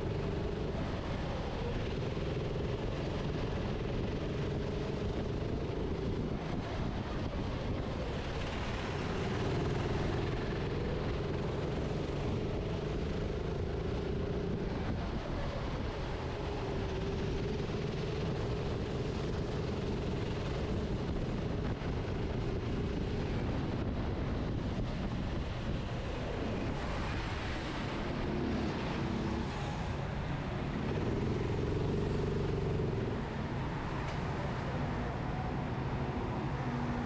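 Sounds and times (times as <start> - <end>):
constant rushing noise: 0.0 - 37.0
go-kart engine running: 0.0 - 37.0.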